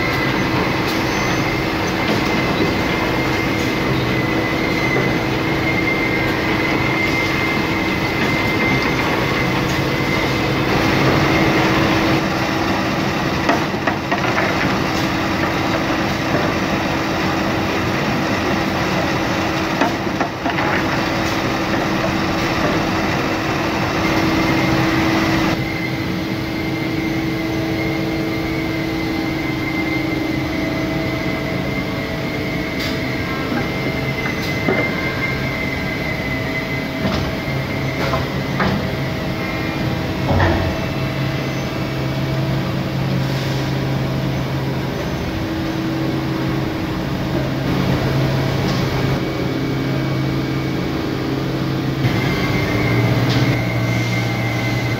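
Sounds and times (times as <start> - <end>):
industrial machine hum: 0.0 - 54.9.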